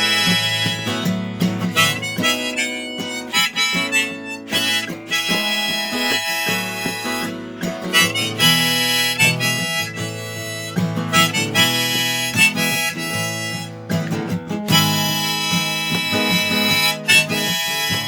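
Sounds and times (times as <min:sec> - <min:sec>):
harmonica melody: 0:00.0 - 0:18.0
strummed acoustic guitar: 0:00.0 - 0:18.0.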